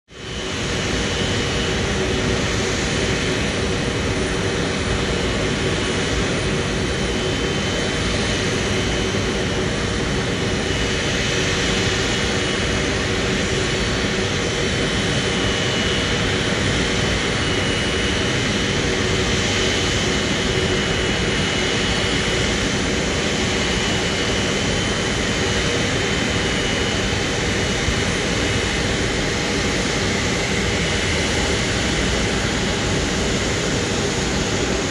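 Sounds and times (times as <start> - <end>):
jet engines running: 0.1 - 34.9.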